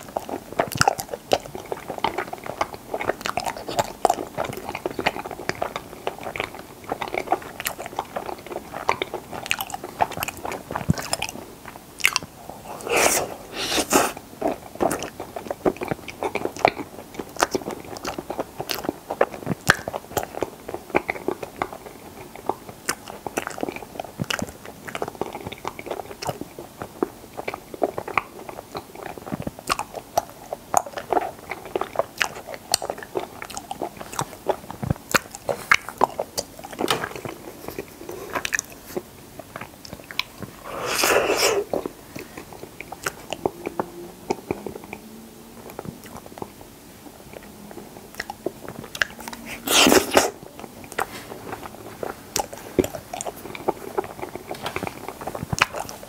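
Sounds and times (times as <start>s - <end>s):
biting and chewing crisp food: 0.0s - 56.0s.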